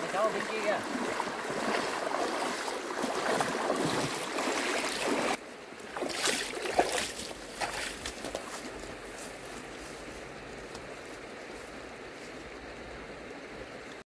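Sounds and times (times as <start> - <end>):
feet splashing through stream: 0.0 - 12.5
footsteps through tall grass: 0.4 - 5.4, 6.0 - 12.5.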